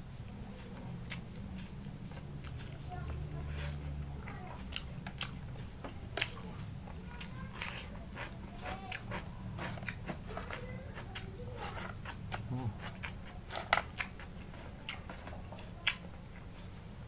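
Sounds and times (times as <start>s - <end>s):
person chewing food: 0.2s - 17.0s.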